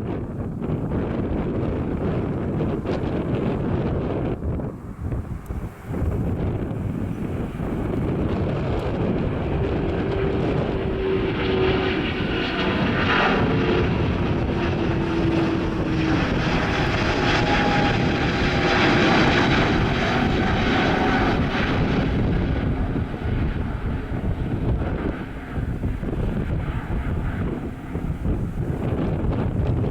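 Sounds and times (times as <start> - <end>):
airliner engines passing: 0.0 - 29.9
wind buffeting microphone: 0.0 - 29.9.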